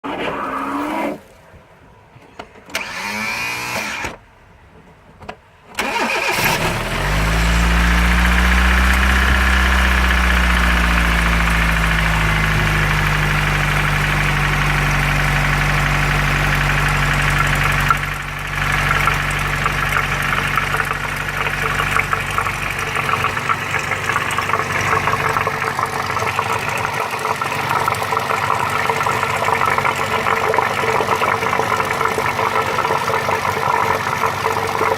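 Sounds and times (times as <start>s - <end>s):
car engine starting and idling: 5.7s - 34.9s
ticking rattle in engine: 5.8s - 34.9s.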